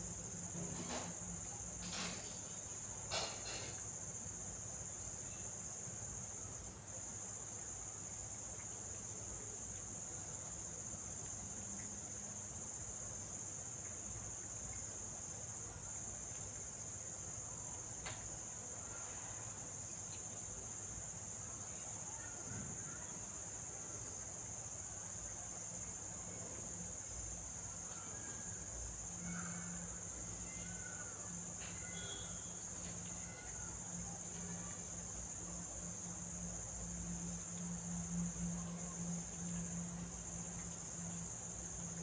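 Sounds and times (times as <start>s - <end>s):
crickets trilling: 0.0s - 42.0s.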